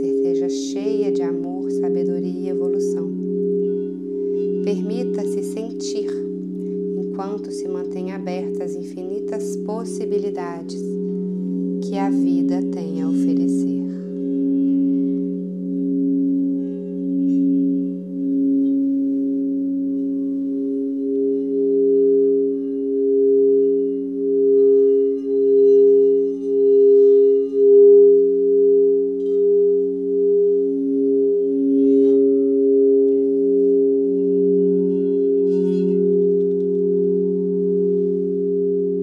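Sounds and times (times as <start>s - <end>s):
crystal singing bowls ringing: 0.0s - 39.0s
faint high tinkles: 0.0s - 39.0s.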